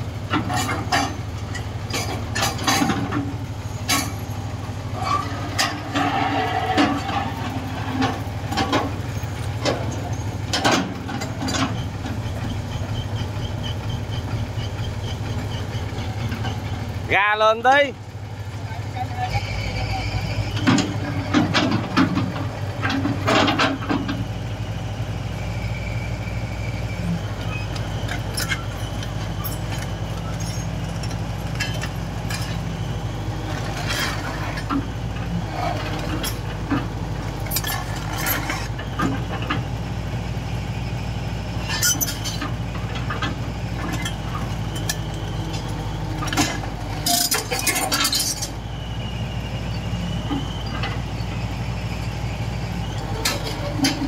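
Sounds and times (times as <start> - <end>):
excavator diesel engine running: 0.0 - 54.0
metal tracks clanking and squealing: 0.2 - 54.0.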